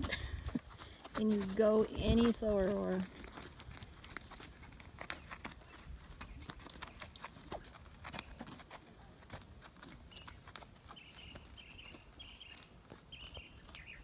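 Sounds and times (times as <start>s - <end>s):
horse hooves on soft sand: 0.0s - 14.0s.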